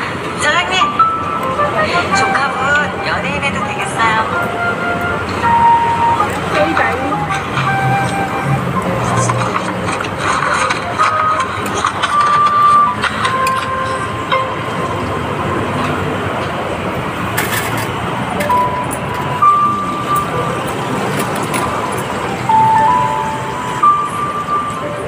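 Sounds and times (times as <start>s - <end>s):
street traffic: 0.0s - 25.0s
melody from phone speaker: 0.6s - 14.8s, 18.4s - 25.0s.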